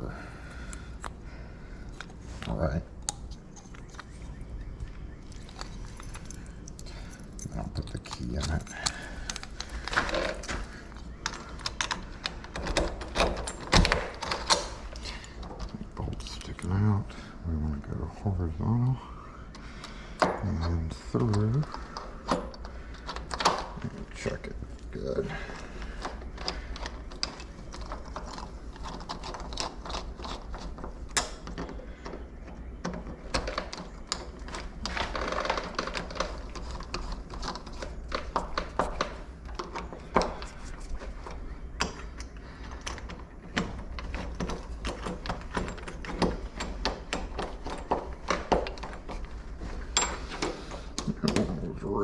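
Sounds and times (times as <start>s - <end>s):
door lock clicking and rattling: 3.0s - 16.7s, 21.2s - 24.2s, 25.0s - 51.6s.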